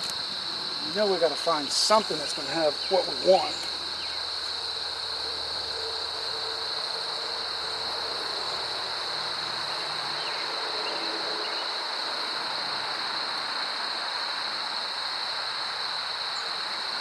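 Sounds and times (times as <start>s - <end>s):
constant hiss: 0.0s - 17.0s
insects chirring: 0.0s - 17.0s.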